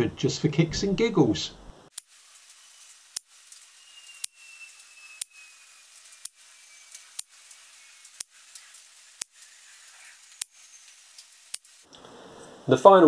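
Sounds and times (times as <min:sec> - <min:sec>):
faint hiss: 0:00.2 - 0:13.0.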